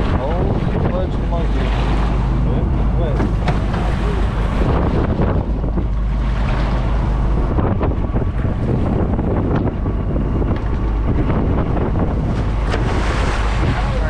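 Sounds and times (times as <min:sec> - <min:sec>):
sea splashing along hull: 0:00.0 - 0:14.0
wind buffeting microphone: 0:00.0 - 0:14.0.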